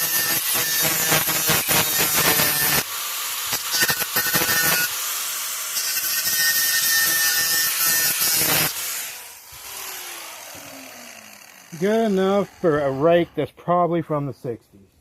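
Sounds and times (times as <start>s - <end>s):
angle grinder cutting steel: 0.0s - 13.6s.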